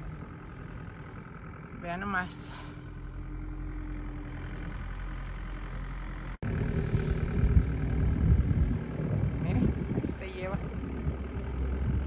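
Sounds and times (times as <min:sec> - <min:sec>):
snow-clearing machine engine: 0:00.0 - 0:12.0.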